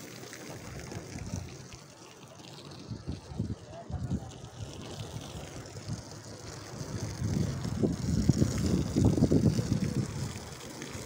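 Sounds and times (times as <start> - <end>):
wind buffeting the microphone: 0.5 - 1.8, 2.7 - 11.0.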